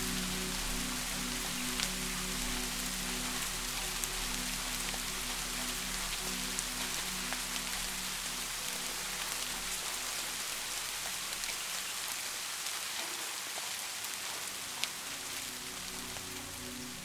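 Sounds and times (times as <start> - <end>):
rain hissing on a surface: 0.0 - 17.0.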